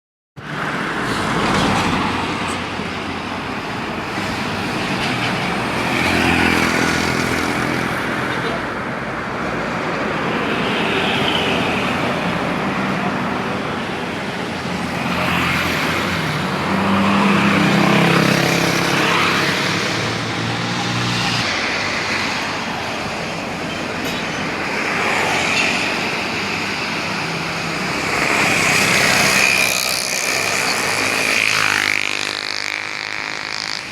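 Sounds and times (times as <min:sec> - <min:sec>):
heavy vehicles passing: 0:00.4 - 0:33.9.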